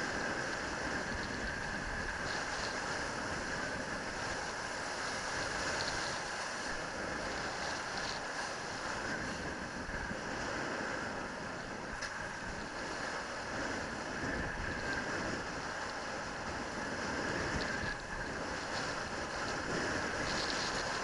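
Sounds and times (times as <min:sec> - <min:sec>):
board skimming over water: 0:00.0 - 0:21.0
wind on microphone: 0:00.0 - 0:21.0.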